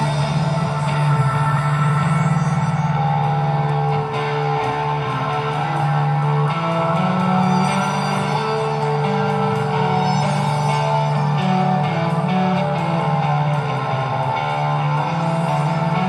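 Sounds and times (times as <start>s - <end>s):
electric guitar: 0.0s - 16.0s.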